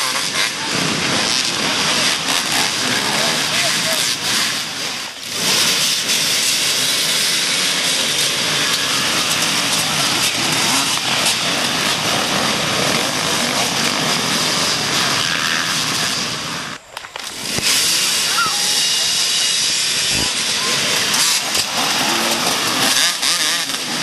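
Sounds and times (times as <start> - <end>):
dirt bike engines running: 0.0 - 24.0
loud steady rushing noise: 0.0 - 24.0.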